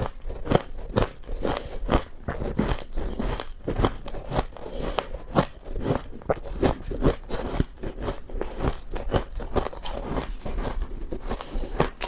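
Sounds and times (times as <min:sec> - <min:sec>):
crunchy chewing of frost: 0:00.0 - 0:12.0.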